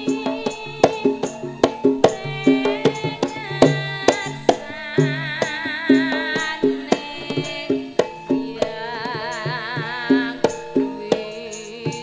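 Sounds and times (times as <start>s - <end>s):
hand drum strokes: 0.0s - 12.0s
woman singing with vibrato: 0.0s - 12.0s.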